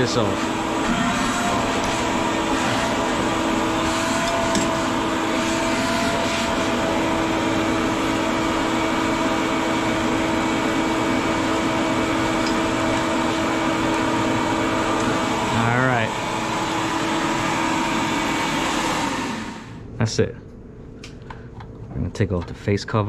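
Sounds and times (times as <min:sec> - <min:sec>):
refrigeration machinery whir and hiss: 0:00.0 - 0:20.3.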